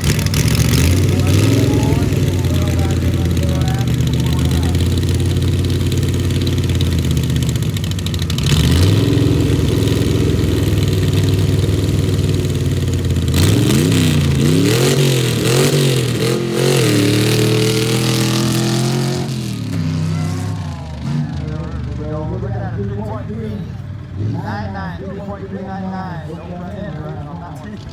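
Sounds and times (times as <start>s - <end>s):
vehicle engine revving: 0.0s - 27.9s.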